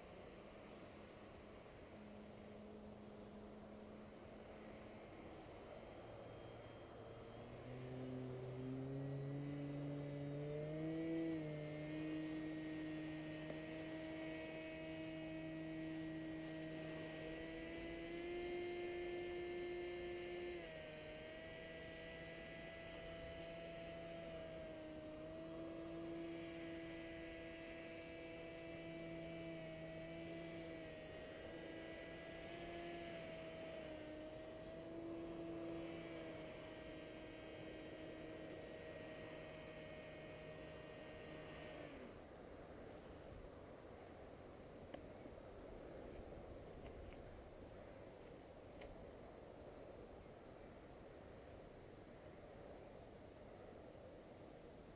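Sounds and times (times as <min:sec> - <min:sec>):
distant paramotor engine droning: 0:00.0 - 0:49.1.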